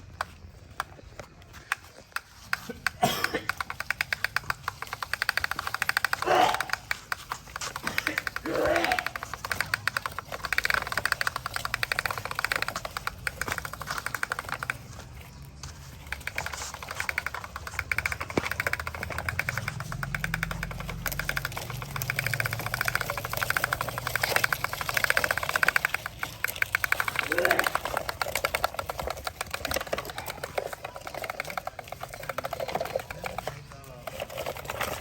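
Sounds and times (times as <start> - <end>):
toy electric motor rattling: 0.0 - 35.0.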